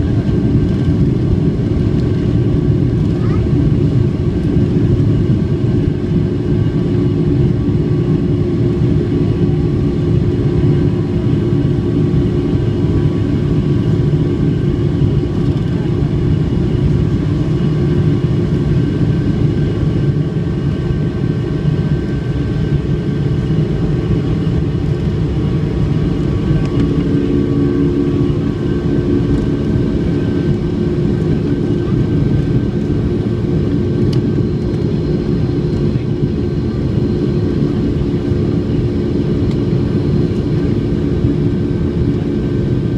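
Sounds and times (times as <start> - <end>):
airplane cabin engine rumble: 0.0 - 42.9.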